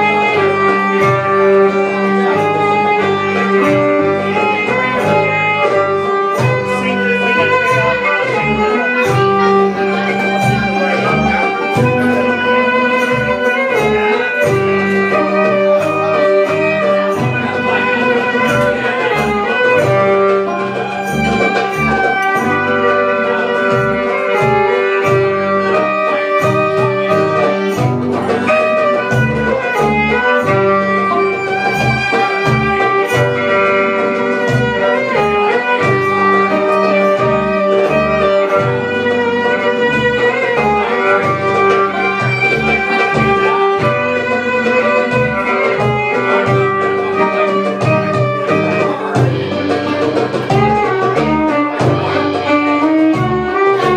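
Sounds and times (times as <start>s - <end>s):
plucked bass line: 0.0s - 53.9s
plucked strings: 0.0s - 53.9s
violin melody: 0.0s - 53.9s.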